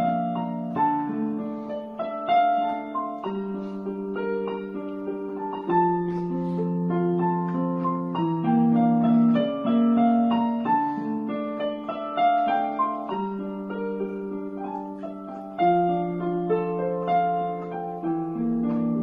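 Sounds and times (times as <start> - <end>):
electronic keyboard piano melody: 0.0 - 19.0.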